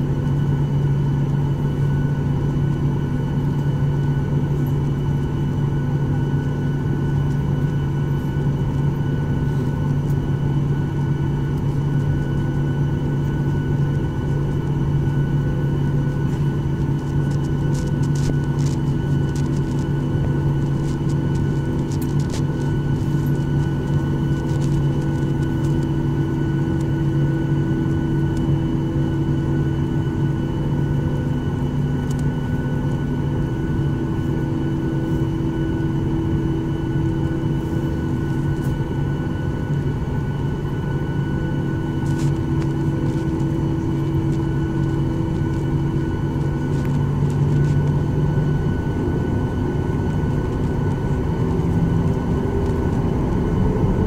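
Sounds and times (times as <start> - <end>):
jet engines idling in cabin: 0.0 - 54.0.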